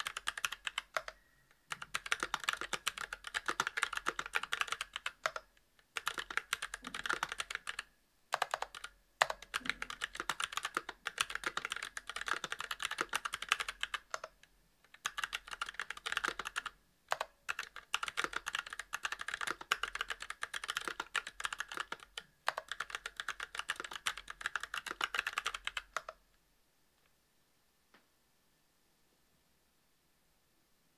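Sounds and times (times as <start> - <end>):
mechanical keyboard typing: 0.0 - 26.2.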